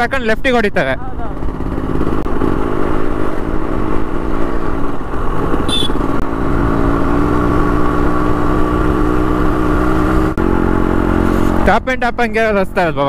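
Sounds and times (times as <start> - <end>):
two-stroke motorcycle engine: 0.9 - 12.9.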